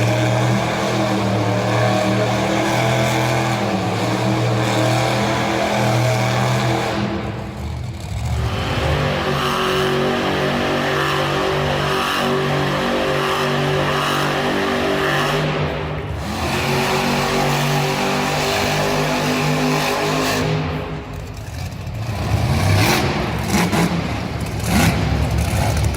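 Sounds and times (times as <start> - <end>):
truck engine revving hard: 0.0 - 25.9.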